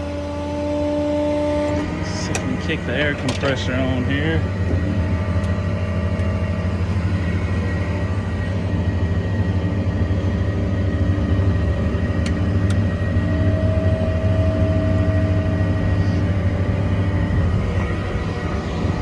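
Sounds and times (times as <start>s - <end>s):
diesel truck engine running: 0.0s - 19.0s
thin whine: 1.0s - 19.0s.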